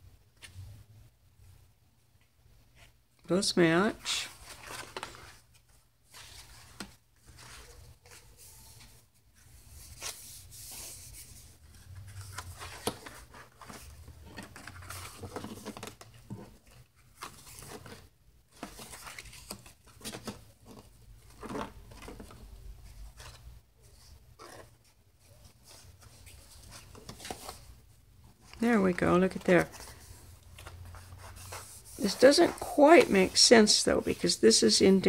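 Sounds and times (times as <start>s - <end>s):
stiff paper pages rustling: 4.2s - 35.0s.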